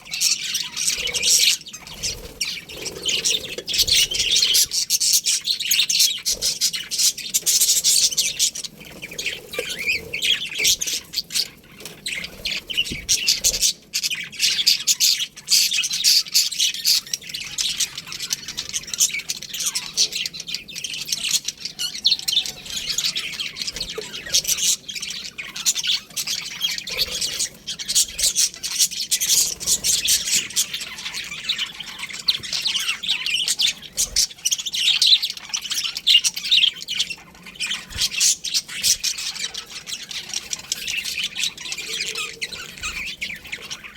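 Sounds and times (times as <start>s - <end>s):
budgerigars chirping and chattering: 0.0s - 43.9s.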